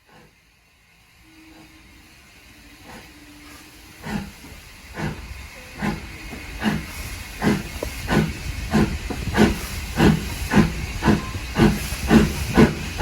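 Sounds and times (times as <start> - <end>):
steam hiss: 0.0 - 13.0
steam locomotive chuffing: 0.0 - 13.0.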